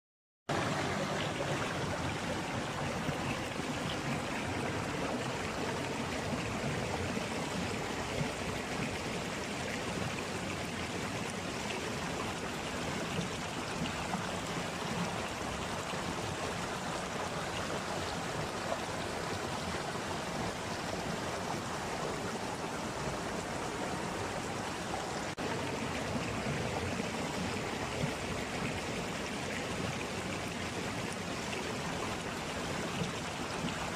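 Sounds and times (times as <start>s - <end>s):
stream water splashing over rocks: 0.5s - 33.9s.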